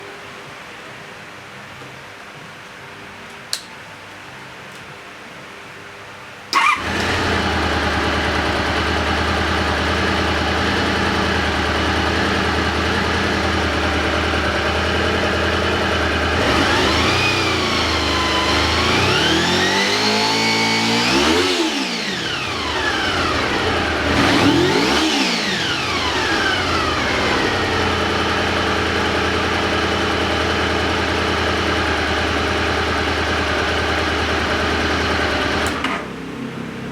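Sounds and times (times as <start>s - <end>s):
motorcycle engine idling and revving: 6.6s - 36.9s.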